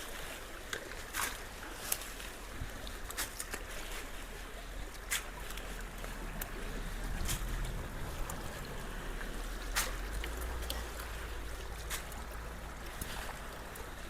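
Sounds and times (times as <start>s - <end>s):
creek water rushing through culvert: 0.0s - 14.0s.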